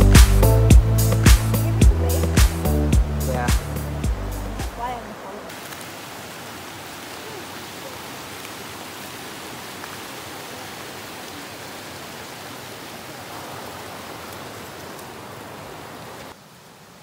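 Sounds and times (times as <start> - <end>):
creek rushing over boulders: 0.0 - 17.0.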